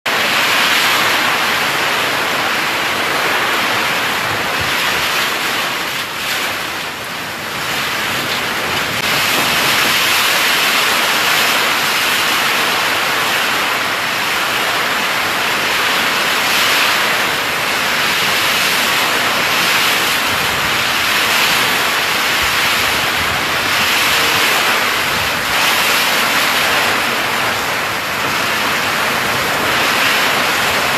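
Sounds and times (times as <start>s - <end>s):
heavy rain in strong wind: 0.1s - 30.9s.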